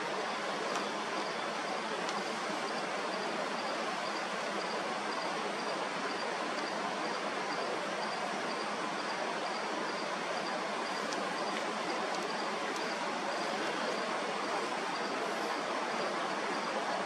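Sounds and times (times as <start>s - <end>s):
insect chirping: 0.8s - 16.8s.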